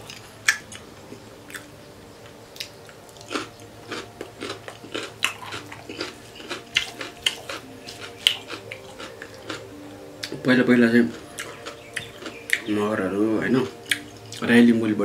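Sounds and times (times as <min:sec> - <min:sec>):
person chewing food: 0:00.0 - 0:12.8, 0:13.6 - 0:14.5.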